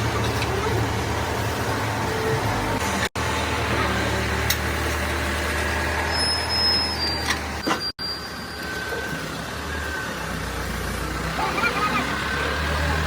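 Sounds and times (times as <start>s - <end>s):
heavy diesel engine running: 0.0s - 6.4s, 8.2s - 13.0s.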